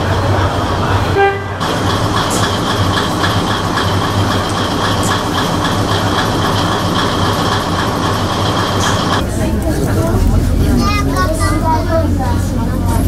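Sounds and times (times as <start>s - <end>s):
diesel railcar engine idling: 0.0s - 13.0s.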